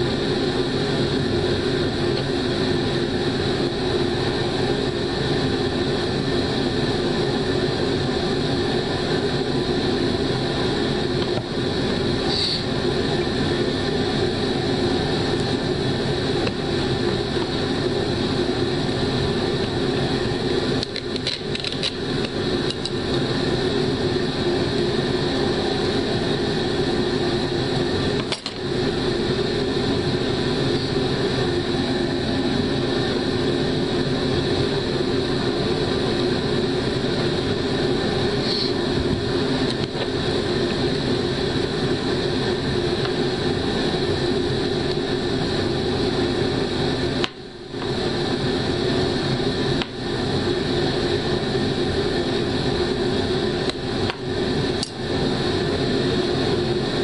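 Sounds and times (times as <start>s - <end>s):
loud mechanical drone: 0.0s - 57.0s.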